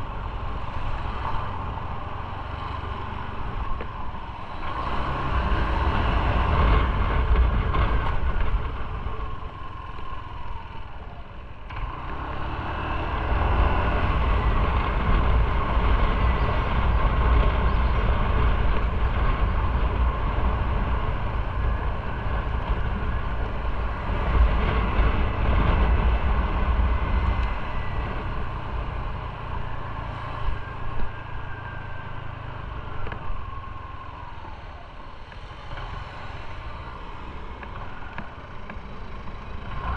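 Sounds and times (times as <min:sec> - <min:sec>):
wind rush on microphone: 0:00.0 - 0:38.6.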